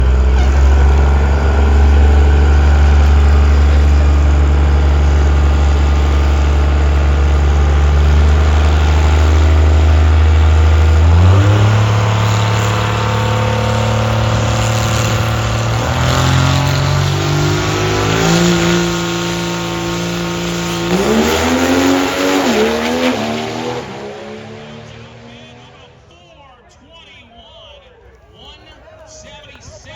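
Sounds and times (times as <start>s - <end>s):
drag car engine running: 0.0s - 26.2s.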